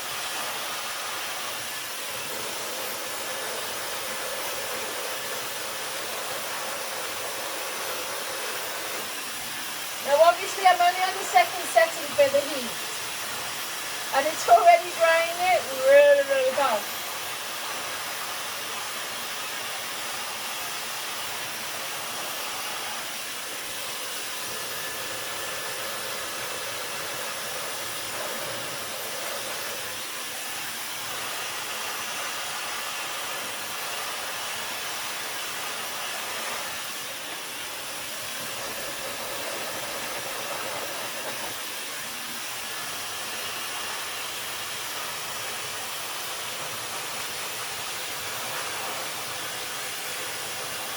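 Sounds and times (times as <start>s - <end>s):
hair dryer running: 0.0s - 50.9s.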